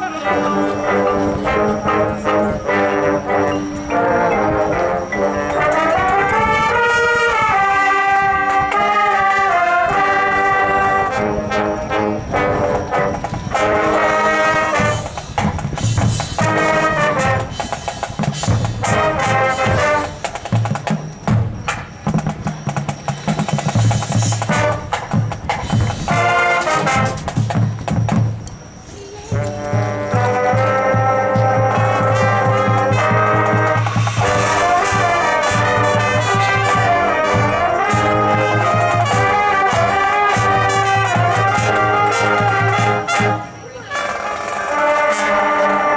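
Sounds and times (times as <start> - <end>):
drums: 0.0 - 45.9
marching band brass: 0.0 - 45.9.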